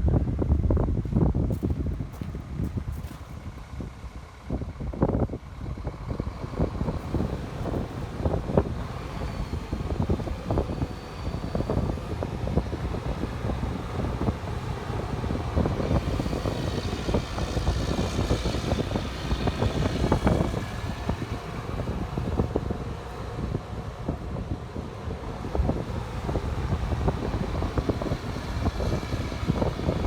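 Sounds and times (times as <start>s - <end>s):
excavator diesel rumble: 0.0s - 30.0s.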